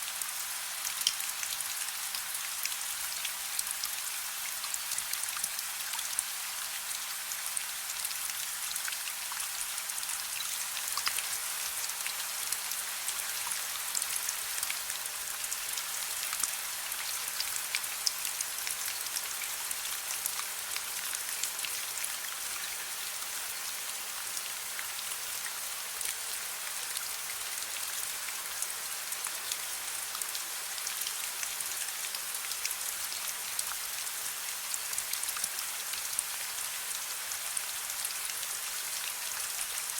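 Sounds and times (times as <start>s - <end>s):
rain drops ticking on a surface: 0.0s - 39.9s.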